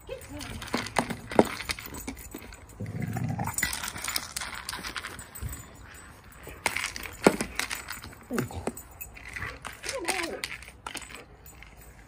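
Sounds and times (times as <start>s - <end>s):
treats rattling inside rubber toy: 0.0s - 12.0s.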